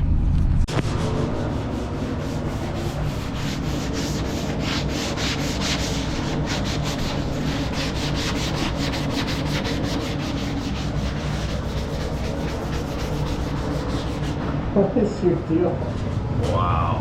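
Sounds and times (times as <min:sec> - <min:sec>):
steady low hum: 0:00.0 - 0:17.0
hand sanding scraping strokes: 0:00.7 - 0:14.6.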